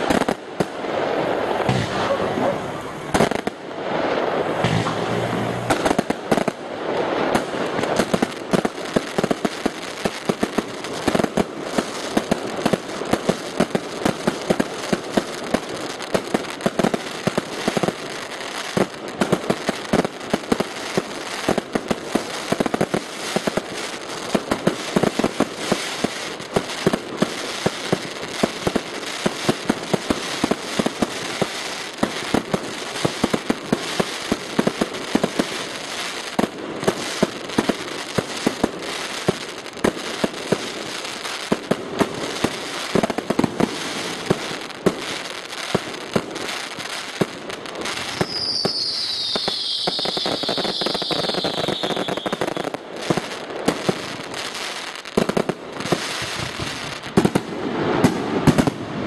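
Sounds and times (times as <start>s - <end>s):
fireworks crackling: 0.0s - 59.0s
loud firework bangs: 0.0s - 59.0s.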